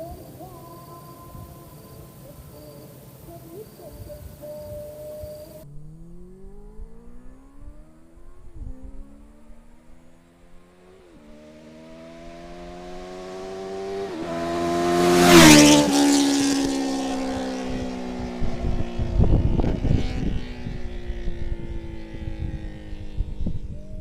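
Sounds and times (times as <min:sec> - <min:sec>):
motorcycle passing at speed: 0:04.4 - 0:24.0.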